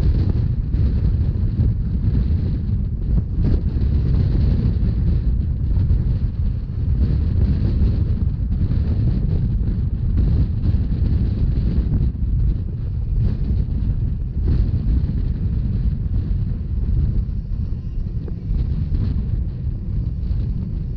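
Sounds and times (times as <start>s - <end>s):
train rumbling: 0.0s - 20.9s
wind buffeting microphone: 0.0s - 20.9s.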